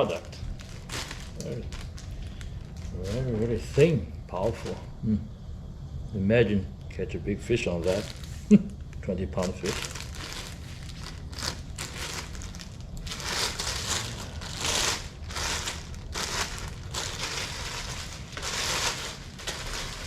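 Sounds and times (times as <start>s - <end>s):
packaging crinkling and rustling: 0.0s - 4.0s, 7.7s - 20.0s.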